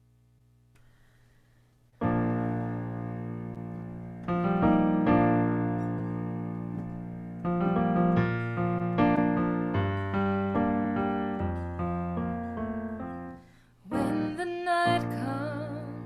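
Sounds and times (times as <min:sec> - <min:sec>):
piano playing slow chords: 0:02.0 - 0:16.0.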